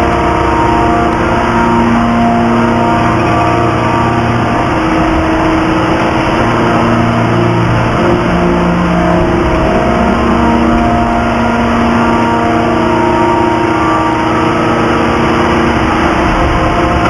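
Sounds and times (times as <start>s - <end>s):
forging press mechanical drone: 0.0s - 17.0s.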